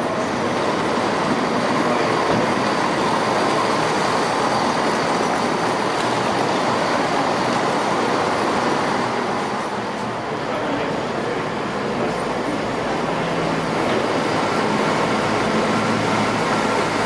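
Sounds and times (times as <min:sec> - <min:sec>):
train engine and wheels: 0:00.0 - 0:17.0.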